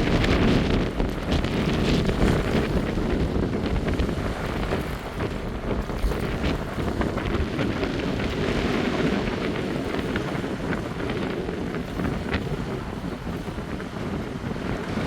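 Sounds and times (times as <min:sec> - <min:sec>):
lake waves splashing on shore: 0:00.0 - 0:15.0
wind buffeting microphone: 0:00.0 - 0:15.0.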